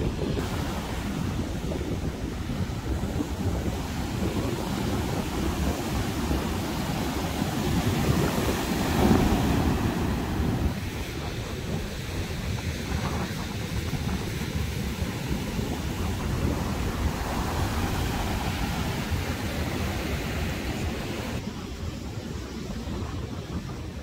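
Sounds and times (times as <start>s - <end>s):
ocean surf on beach: 0.0s - 24.0s
wind buffeting microphone: 0.0s - 24.0s.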